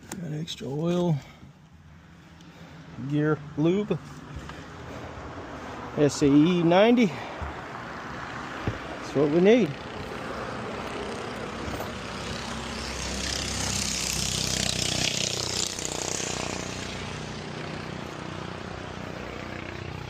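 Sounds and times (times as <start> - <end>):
engine running: 1.0 - 20.0.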